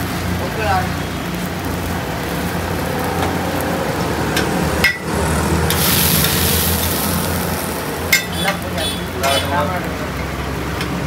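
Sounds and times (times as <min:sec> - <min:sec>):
egg sizzling on a griddle: 0:00.0 - 0:11.0.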